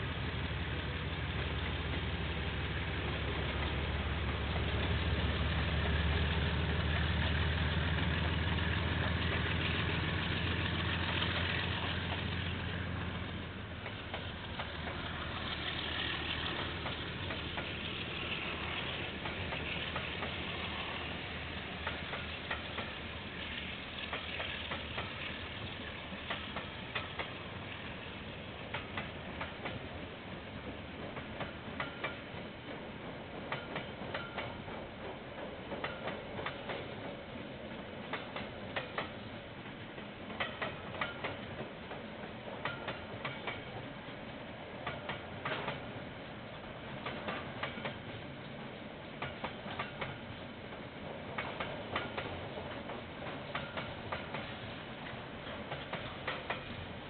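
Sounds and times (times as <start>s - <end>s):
diesel locomotive engine drone: 0.0s - 57.0s
wheels clicking over rail joints: 0.1s - 57.0s.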